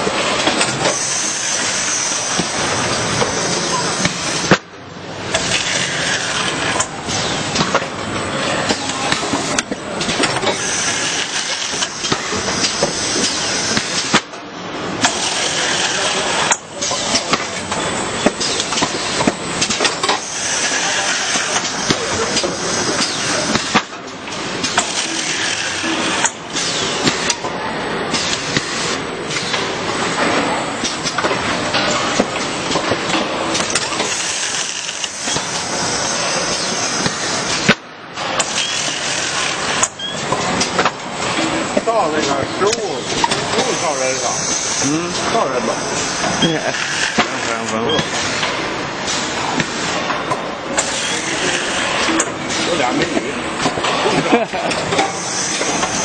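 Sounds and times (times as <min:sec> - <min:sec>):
packing machinery running: 0:00.0 - 0:56.0.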